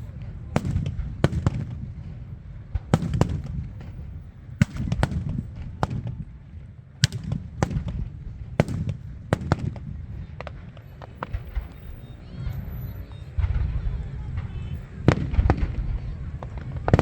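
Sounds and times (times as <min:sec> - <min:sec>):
fireworks bangs: 0:00.0 - 0:17.0
low rumble: 0:00.0 - 0:17.0.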